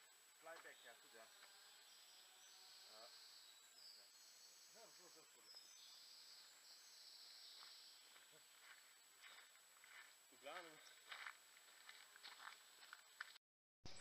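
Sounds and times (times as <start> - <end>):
faint high insect buzz: 0.0 - 13.0.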